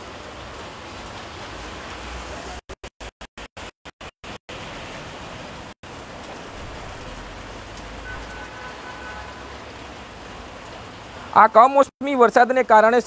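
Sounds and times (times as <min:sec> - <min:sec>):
heavy rain on pavement: 0:00.0 - 0:02.7, 0:03.6 - 0:13.0.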